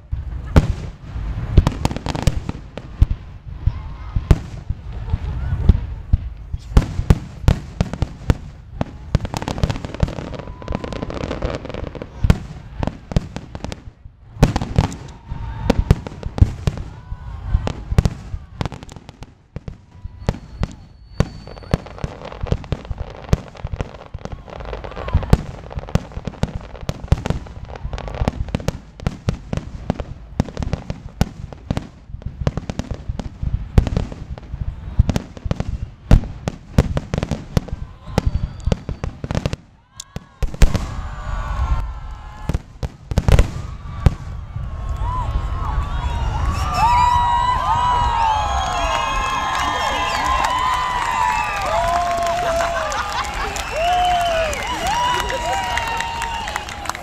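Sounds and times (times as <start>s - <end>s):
firework booms and crackling: 0.0s - 57.0s.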